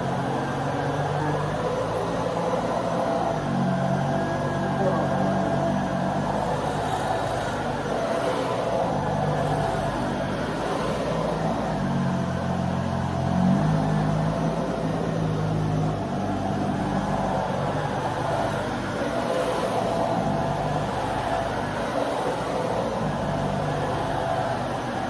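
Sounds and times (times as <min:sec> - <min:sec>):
vacuum cleaner running: 0:00.0 - 0:12.1, 0:13.3 - 0:25.0.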